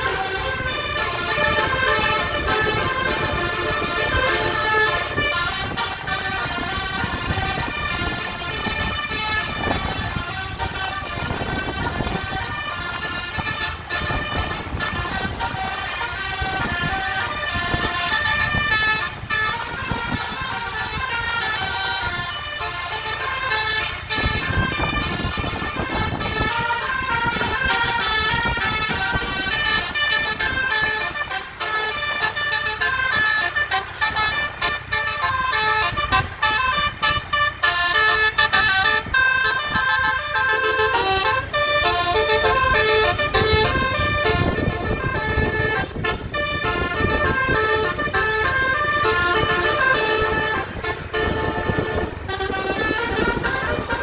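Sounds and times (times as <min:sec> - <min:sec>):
bus horn playing a tune: 0:00.0 - 0:54.0.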